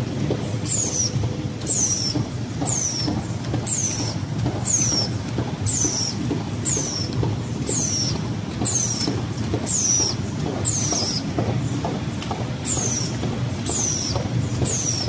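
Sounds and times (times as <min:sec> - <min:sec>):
printing machine rumble: 0:00.0 - 0:15.0.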